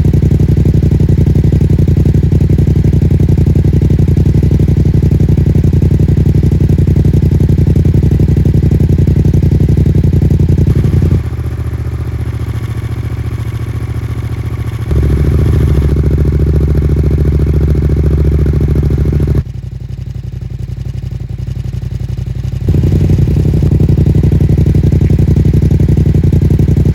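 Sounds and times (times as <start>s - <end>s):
motorcycle engine idling: 0.0s - 26.9s.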